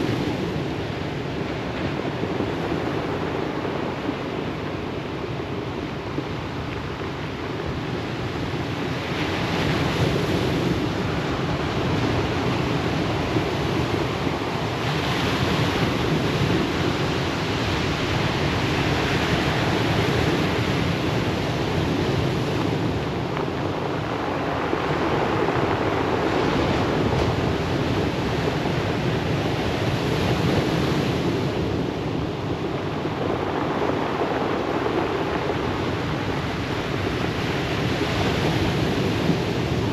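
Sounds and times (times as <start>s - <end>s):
surf washing on pebble beach: 0.0s - 39.9s.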